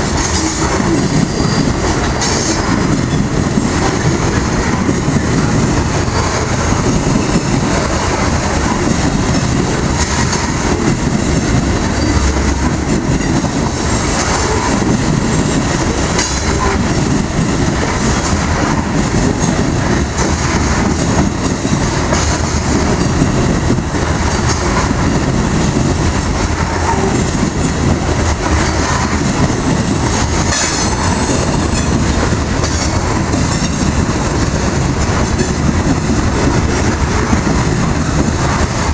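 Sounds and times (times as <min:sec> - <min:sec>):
freight train rumble: 0:00.0 - 0:38.9
wheels clattering over rails: 0:00.0 - 0:38.9.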